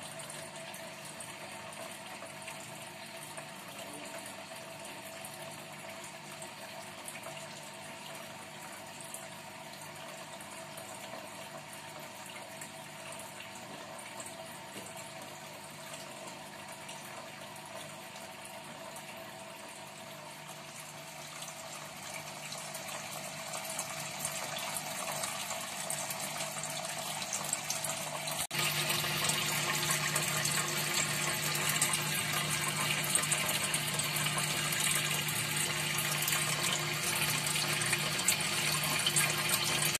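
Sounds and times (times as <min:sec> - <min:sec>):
flowing water: 0:00.0 - 0:39.9
water pump humming: 0:00.0 - 0:39.9.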